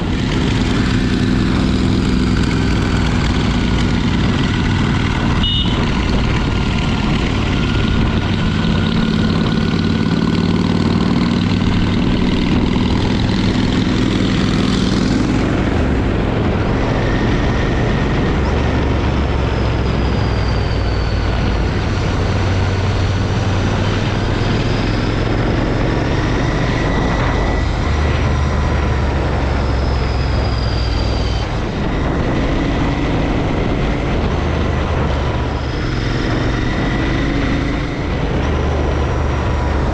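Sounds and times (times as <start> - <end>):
motorcycle engine running: 0.0 - 39.9
rush of noise: 0.0 - 39.9.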